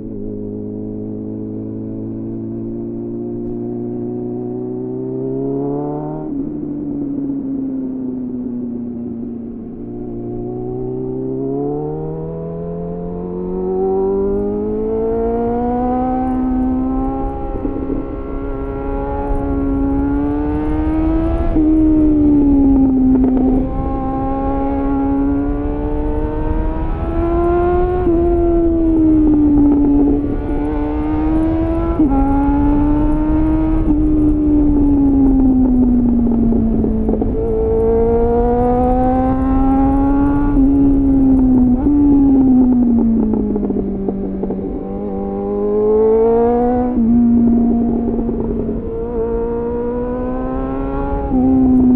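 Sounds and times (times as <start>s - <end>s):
motorcycle engine revving: 8.7s - 51.9s.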